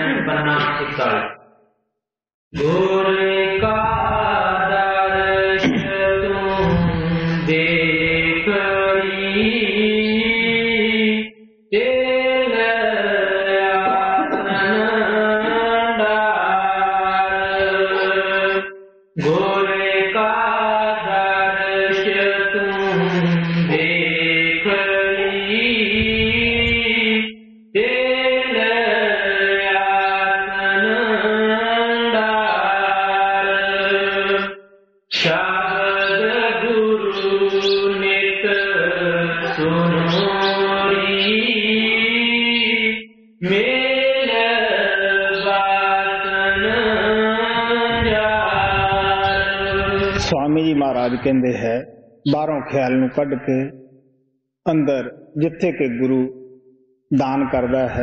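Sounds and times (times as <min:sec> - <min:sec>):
solo voice chanting a hymn: 0:00.0 - 0:01.4, 0:02.6 - 0:18.6, 0:19.2 - 0:34.5, 0:35.1 - 0:53.8, 0:54.7 - 0:56.4, 0:57.1 - 0:58.0.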